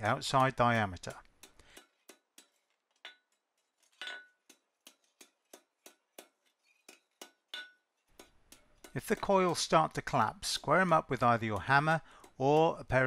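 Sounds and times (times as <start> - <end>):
hammer tapping on hot steel: 0.2 - 3.4, 4.0 - 13.0.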